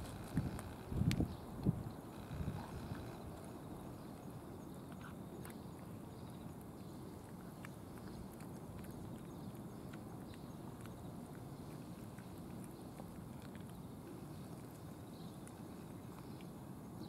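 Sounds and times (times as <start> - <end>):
cat chewing food: 2.4 - 17.0.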